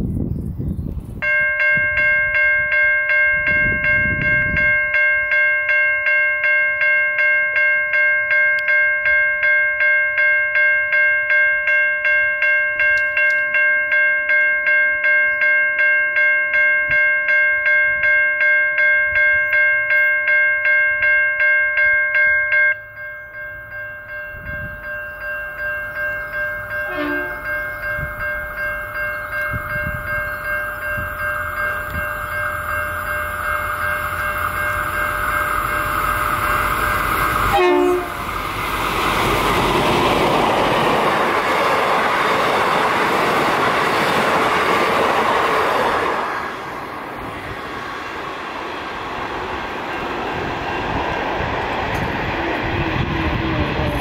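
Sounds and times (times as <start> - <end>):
level crossing warning bell: 1.2 - 48.4.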